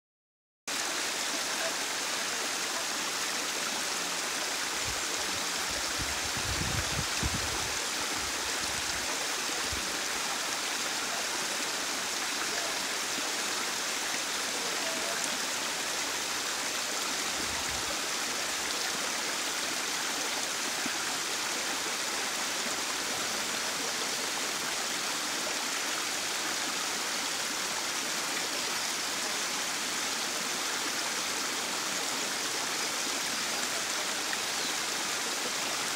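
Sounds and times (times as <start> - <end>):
waterfall pouring over rocks: 0.7 - 35.9.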